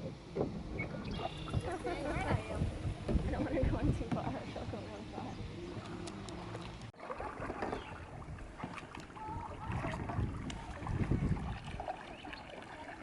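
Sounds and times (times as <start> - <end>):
wind buffeting microphone: 0.0 - 12.4
river water: 0.0 - 13.0.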